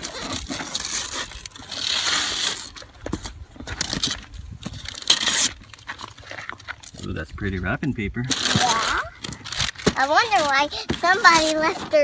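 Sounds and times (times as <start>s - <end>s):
wrapping paper tearing: 0.0s - 3.0s, 3.8s - 6.9s, 8.3s - 12.0s.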